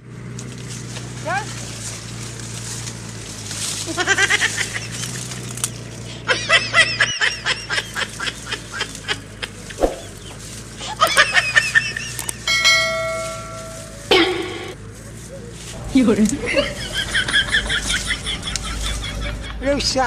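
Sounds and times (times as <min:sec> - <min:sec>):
chickens clucking: 0:02.9 - 0:19.6.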